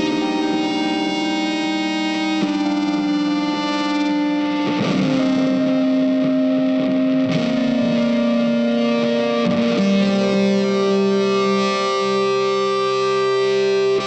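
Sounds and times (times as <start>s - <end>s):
distorted electric guitar music: 0.0s - 14.0s.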